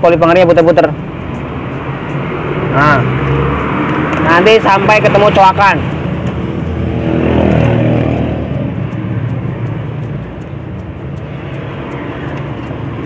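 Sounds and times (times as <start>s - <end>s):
low background engine hum: 0.0s - 13.0s
passing motor vehicle: 0.0s - 13.0s.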